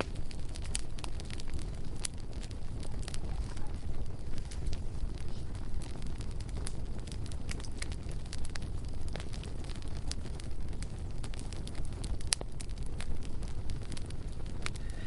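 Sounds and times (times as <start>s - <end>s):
bonfire flames rumbling: 0.0s - 15.0s
fire crackling and popping: 0.0s - 15.0s.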